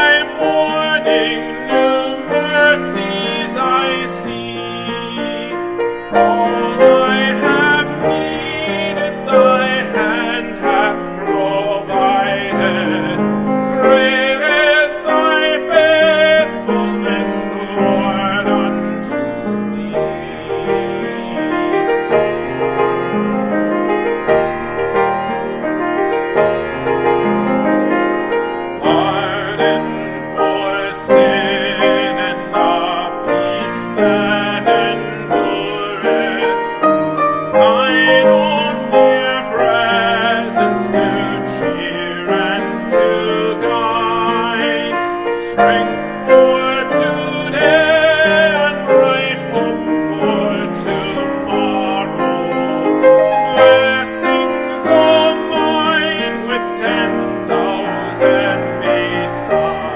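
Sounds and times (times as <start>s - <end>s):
piano accompaniment: 0.0s - 59.9s.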